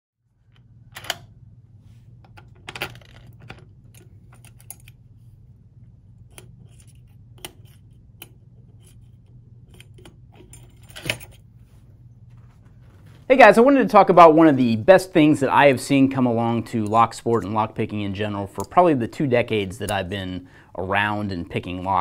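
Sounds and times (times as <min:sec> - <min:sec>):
steady low hum: 0:00.2 - 0:22.0.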